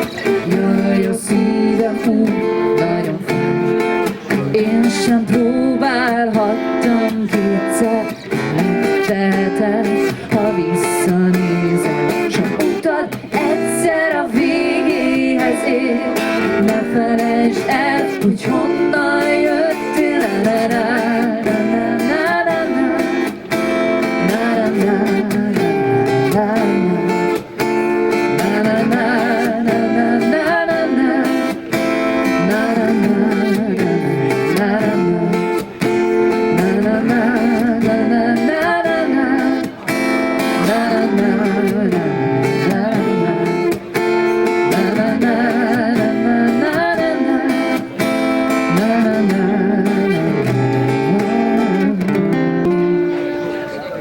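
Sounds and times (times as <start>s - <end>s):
person singing wordless melody: 0.0s - 53.2s
acoustic guitar playing: 0.0s - 54.0s.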